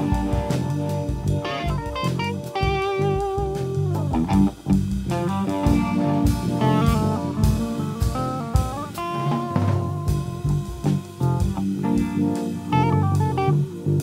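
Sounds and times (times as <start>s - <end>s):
bass guitar: 0.0s - 14.0s
drum kit: 0.0s - 14.0s
lead guitar bending note: 0.0s - 14.0s.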